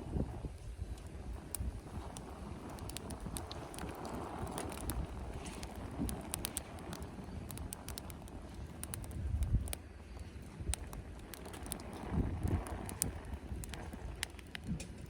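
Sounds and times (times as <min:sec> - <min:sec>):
wind rumbling on microphone: 0:00.0 - 0:15.0
wood fire crackling: 0:00.0 - 0:15.0.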